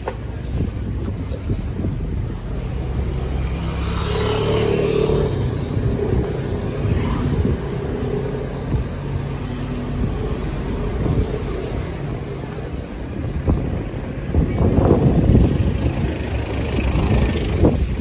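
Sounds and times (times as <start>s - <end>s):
vehicle engines running: 0.0s - 18.0s.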